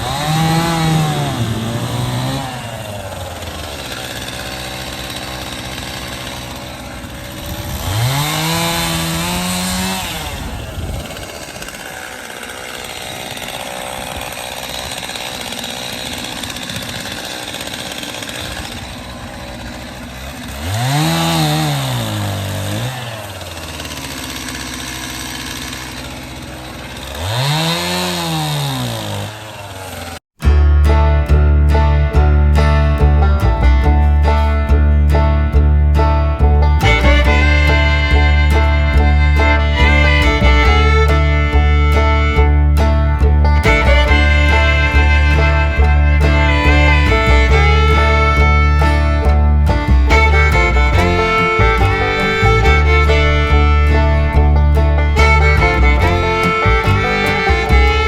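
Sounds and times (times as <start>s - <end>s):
chainsaw revving: 0.0s - 30.2s, 32.8s - 58.0s.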